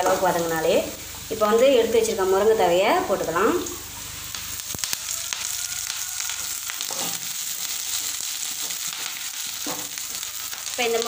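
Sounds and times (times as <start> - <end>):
leaves sizzling in hot oil: 0.0 - 11.0.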